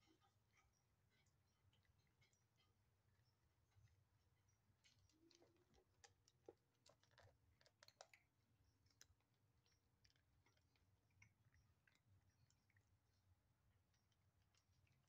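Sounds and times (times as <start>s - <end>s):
kittens chewing dry kibble: 0.0s - 15.0s.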